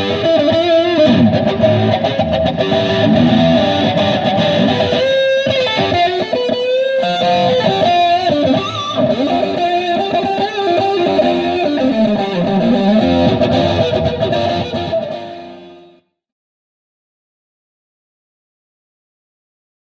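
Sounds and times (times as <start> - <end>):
electric guitar rock riff: 0.0 - 16.0.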